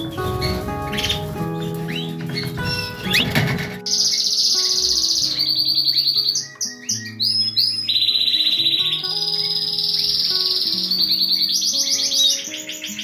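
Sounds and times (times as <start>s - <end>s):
background music: 0.0s - 13.0s
canary singing: 0.0s - 13.0s.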